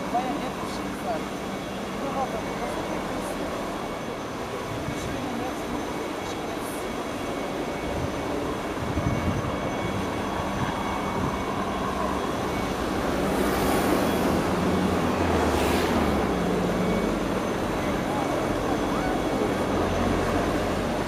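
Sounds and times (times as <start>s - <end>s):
faint whine: 0.0s - 21.0s
helicopter hovering: 0.0s - 21.0s.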